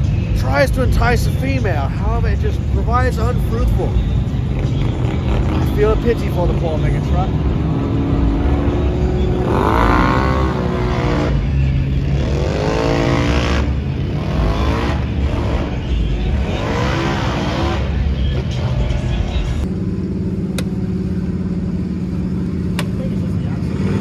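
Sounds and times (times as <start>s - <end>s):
low rumble of running engines: 0.0s - 24.0s
vehicle engine revving: 2.2s - 24.0s.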